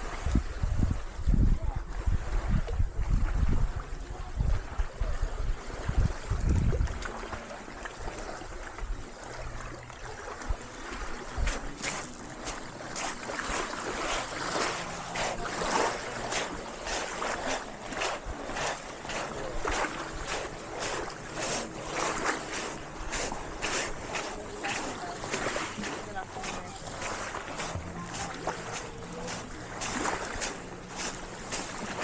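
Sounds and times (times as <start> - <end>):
wind buffeting microphone: 0.0 - 7.4, 8.0 - 32.0
small waves washing on shore: 0.0 - 32.0.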